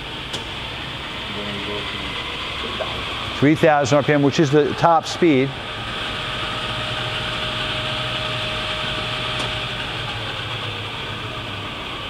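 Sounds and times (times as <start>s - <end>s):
lathe humming and whining: 0.0s - 12.0s.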